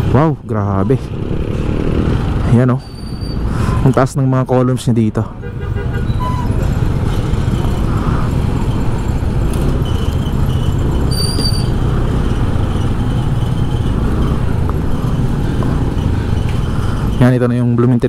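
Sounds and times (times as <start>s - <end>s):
motorcycle engines rumbling: 0.0s - 18.0s
street traffic: 0.0s - 18.0s.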